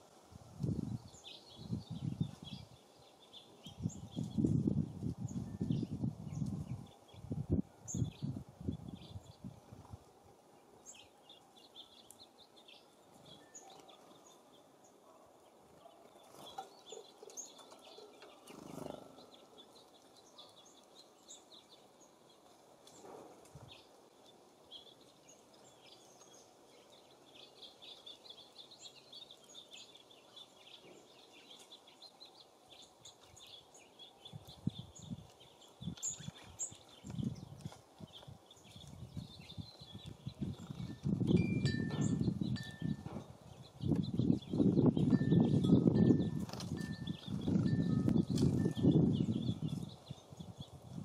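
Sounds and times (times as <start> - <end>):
low wind: 0.0 - 51.0
songbirds chirping: 0.0 - 51.0.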